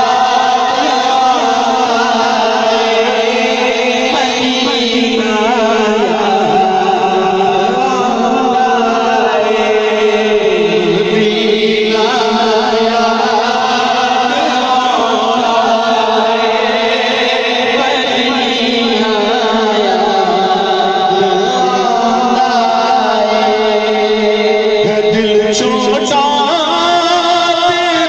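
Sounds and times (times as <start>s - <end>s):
lead voice singing: 0.0s - 28.0s
men chanting through loudspeaker: 0.0s - 28.0s
steady held drone: 0.0s - 28.0s.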